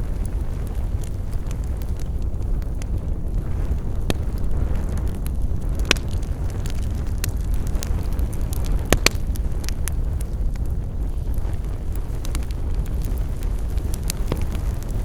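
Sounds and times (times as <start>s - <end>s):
burning wood crackling and popping: 0.0s - 15.0s
campfire rumble: 0.0s - 15.0s.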